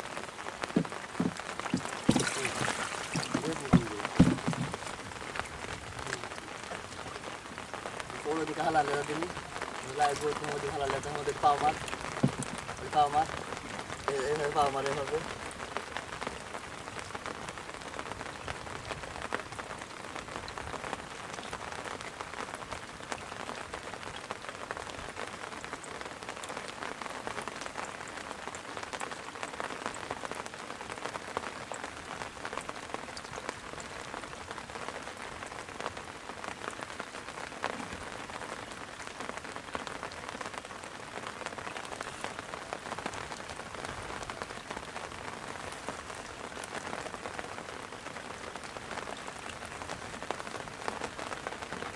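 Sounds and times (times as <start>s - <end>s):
rain falling steadily: 0.0s - 51.9s.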